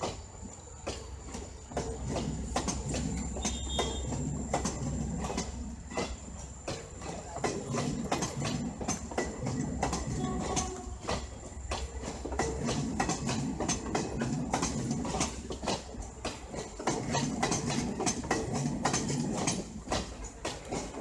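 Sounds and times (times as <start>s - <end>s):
train rumble: 0.0s - 21.0s
train wheels clacking over rail joints: 0.0s - 21.0s.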